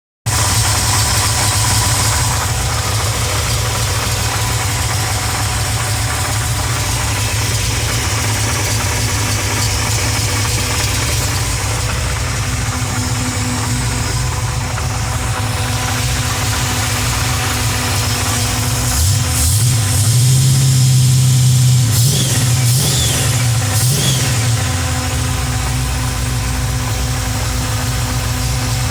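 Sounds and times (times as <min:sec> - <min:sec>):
car engine idling: 0:00.2 - 0:28.9
engine knocking: 0:00.2 - 0:28.9.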